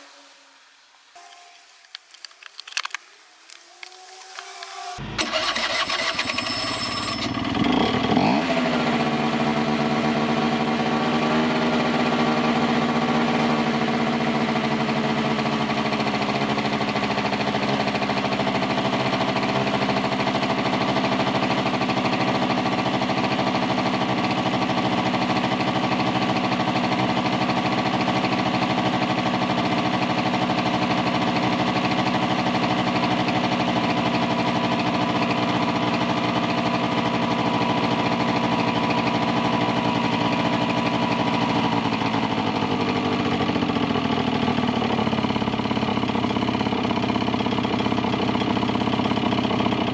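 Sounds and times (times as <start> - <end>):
scooter engine revving and idling: 4.3 - 49.9.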